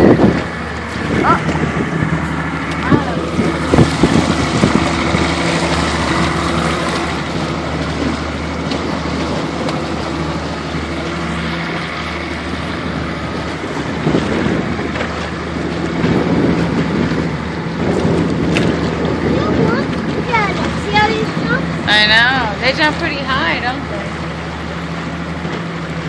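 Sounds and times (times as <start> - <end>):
motorboat engine drone: 0.0 - 26.0
water noise: 0.0 - 26.0
wind: 0.0 - 26.0.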